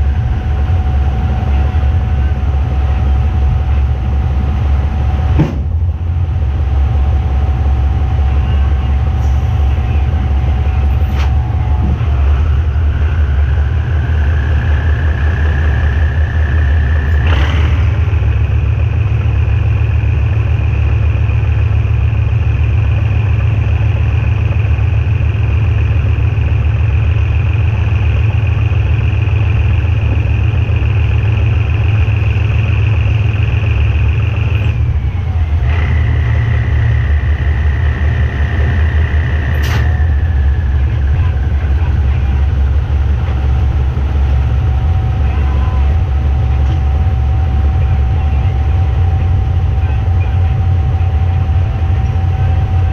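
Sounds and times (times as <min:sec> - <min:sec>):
diesel locomotive rumble: 0:00.0 - 0:52.9
rising whine: 0:00.0 - 0:52.9.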